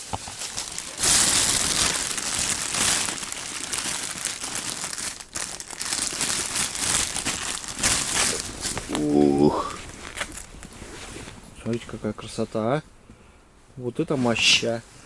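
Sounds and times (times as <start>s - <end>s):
material crinkling and rustling: 0.0s - 12.8s.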